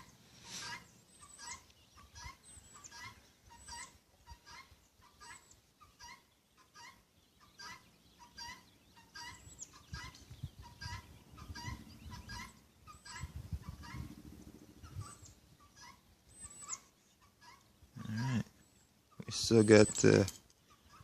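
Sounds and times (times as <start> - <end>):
birds calling in short notes: 0.0 - 21.0.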